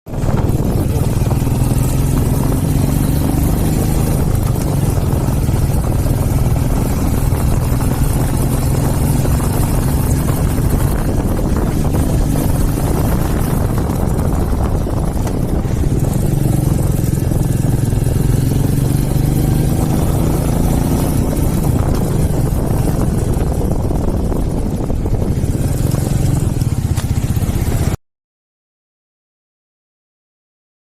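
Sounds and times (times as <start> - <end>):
motorcycle engine running: 0.1 - 28.0.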